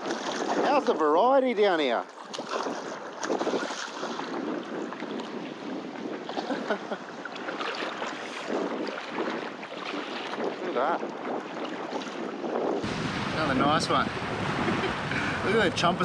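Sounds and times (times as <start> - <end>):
small waves washing onto beach: 0.0 - 16.0
wind buffeting microphone: 0.0 - 16.0.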